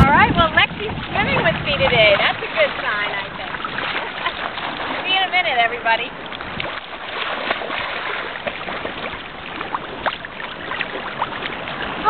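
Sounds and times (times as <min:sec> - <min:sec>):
gentle surf: 0:00.0 - 0:12.0
seawater sloshing and lapping: 0:00.0 - 0:12.0
small splashes: 0:00.0 - 0:12.0.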